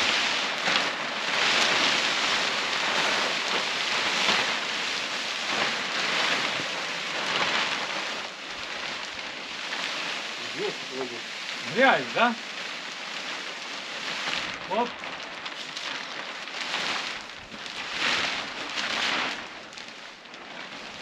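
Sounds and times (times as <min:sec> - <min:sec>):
plastic sheet rustling: 0:00.0 - 0:21.0.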